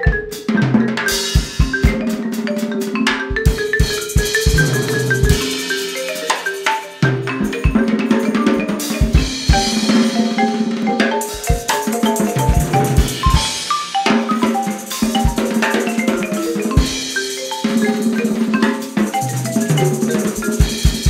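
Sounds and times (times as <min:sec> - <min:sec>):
drum kit and percussion: 0:00.0 - 0:21.0
marimba quick runs: 0:00.0 - 0:21.0.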